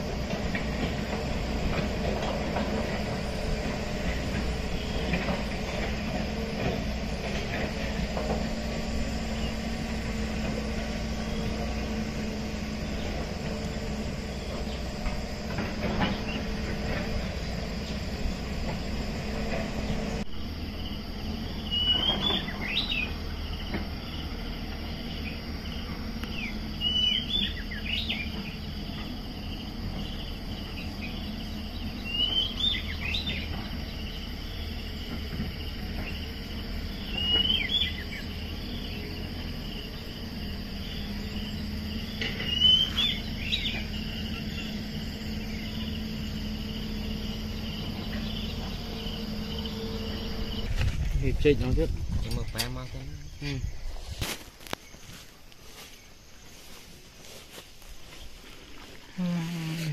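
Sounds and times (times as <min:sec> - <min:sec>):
distant excavator engine hum: 0:00.0 - 0:59.9
insect chorus: 0:00.0 - 0:59.9.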